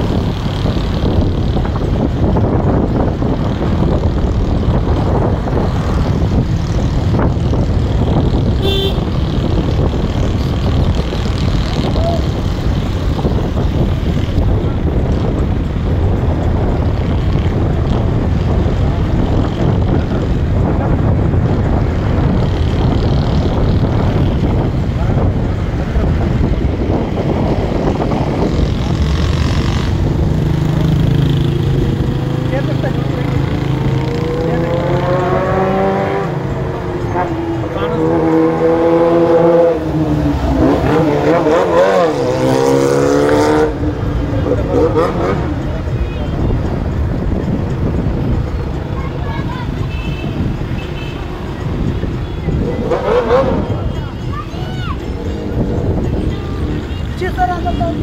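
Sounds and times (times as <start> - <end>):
car engine and road noise: 0.0 - 58.0
wind buffeting microphone: 0.0 - 58.0.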